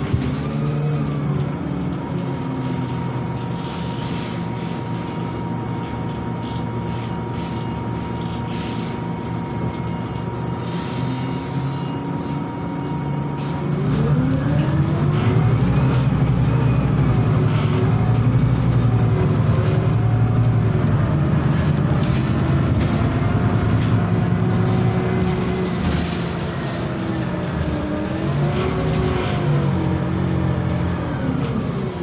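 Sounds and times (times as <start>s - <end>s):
bus engine accelerating: 0.0s - 32.0s.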